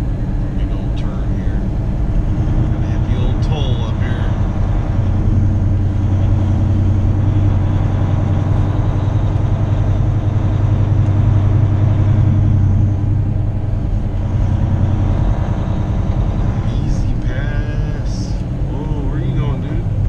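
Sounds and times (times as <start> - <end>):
road and tyre noise: 0.0 - 20.0
truck diesel engine droning: 0.0 - 20.0.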